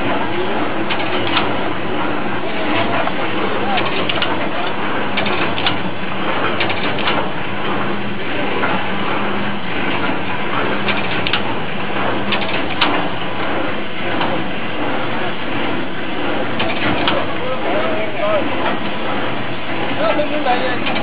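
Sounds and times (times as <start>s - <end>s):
shelling machine clattering: 0.0s - 21.0s.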